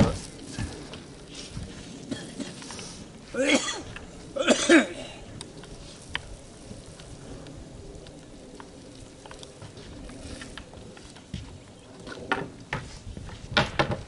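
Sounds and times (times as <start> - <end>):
paint roller crackling: 0.0 - 14.0.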